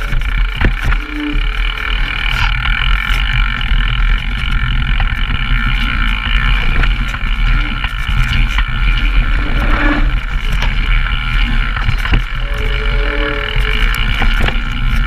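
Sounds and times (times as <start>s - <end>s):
bike rattling clicks and knocks: 0.0s - 15.0s
bike tyre and drivetrain noise: 0.0s - 15.0s
wind buffeting microphone: 0.0s - 15.0s.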